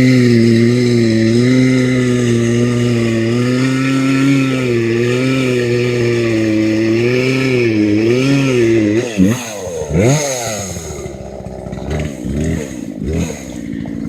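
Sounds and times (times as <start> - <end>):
chainsaw cutting a tree: 0.0 - 14.0.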